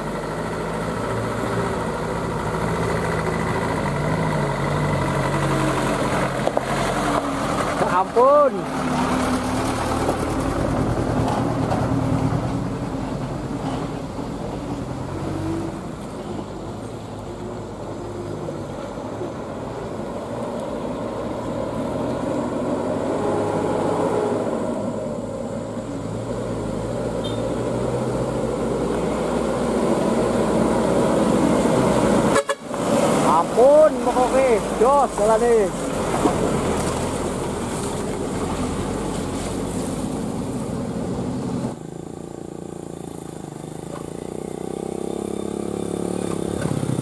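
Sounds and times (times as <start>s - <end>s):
diesel truck engines: 0.0s - 47.0s.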